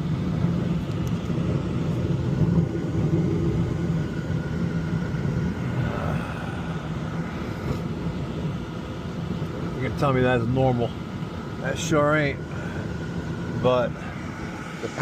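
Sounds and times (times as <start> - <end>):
gas burners firing low rumble: 0.0 - 15.0.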